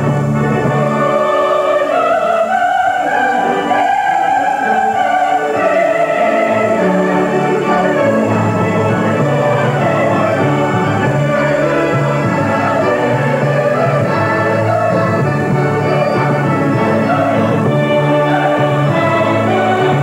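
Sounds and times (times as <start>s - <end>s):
choir singing held notes: 0.0s - 20.0s
instrumental accompaniment: 0.0s - 20.0s.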